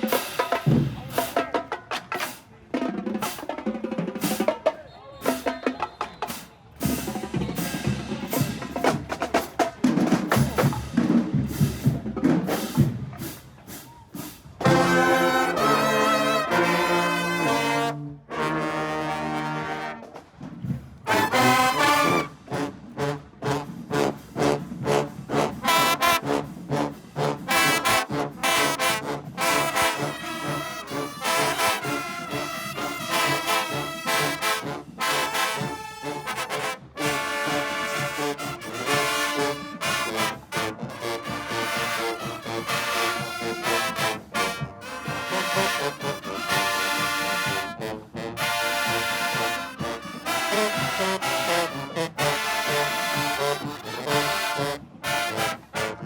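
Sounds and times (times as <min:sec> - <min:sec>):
drumline hits: 0:00.0 - 0:56.0
brass section playing: 0:03.0 - 0:20.2, 0:21.0 - 0:56.0.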